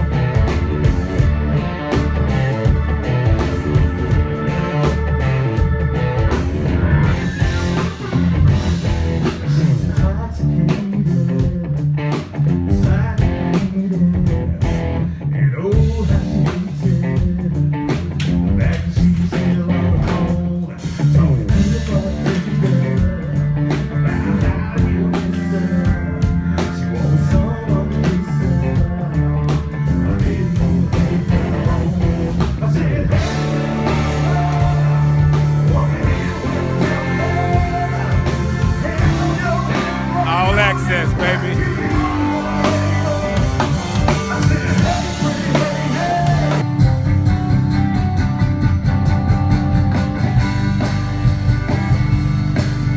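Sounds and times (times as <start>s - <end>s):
blues-rock band playing: 0.0s - 52.9s
electric guitar: 0.0s - 52.9s.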